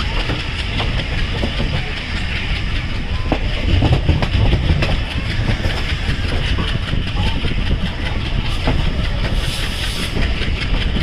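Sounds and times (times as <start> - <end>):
sharp clicks and rattles: 0.0 - 11.0
train wheels rumbling on rail: 0.0 - 11.0.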